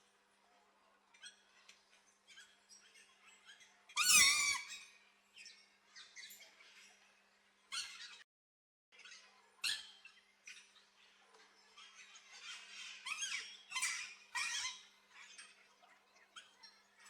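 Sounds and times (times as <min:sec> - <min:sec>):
faint bird chirping: 0:00.0 - 0:08.3, 0:09.0 - 0:17.0.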